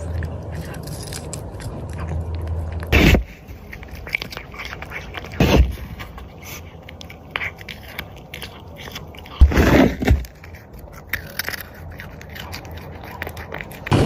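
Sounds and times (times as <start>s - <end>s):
cat chewing food: 0.0s - 14.0s.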